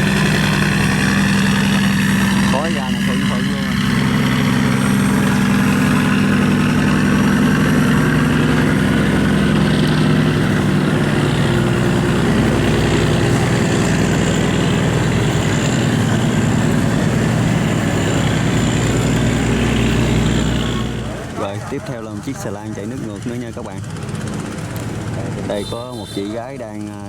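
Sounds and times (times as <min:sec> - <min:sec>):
barge diesel engine droning: 0:00.0 - 0:27.0.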